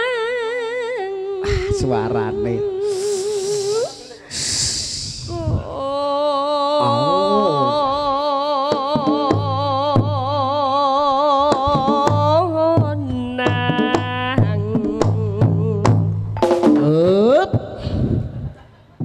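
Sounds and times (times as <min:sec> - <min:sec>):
singer with wavering vibrato: 0:00.0 - 0:04.3, 0:04.9 - 0:15.9.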